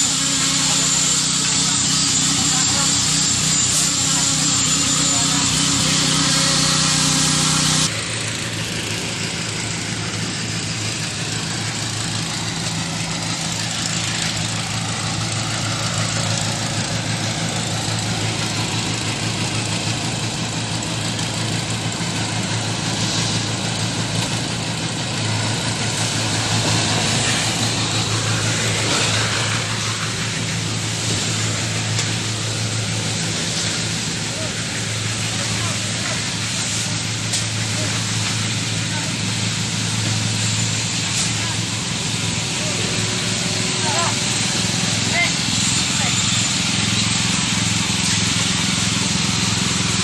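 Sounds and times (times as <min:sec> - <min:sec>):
concrete mixer pump engine humming: 0:00.0 - 0:50.0.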